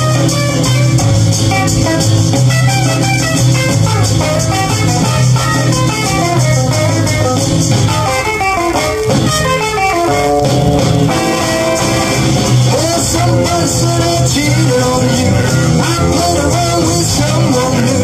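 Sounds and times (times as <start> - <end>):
guitar-led record playing: 0.0 - 18.0
steady bass line: 0.0 - 18.0.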